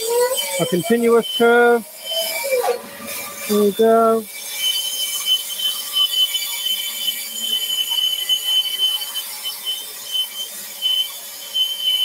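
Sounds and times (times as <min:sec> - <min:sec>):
bandsaw cutting wood: 0:00.0 - 0:12.0.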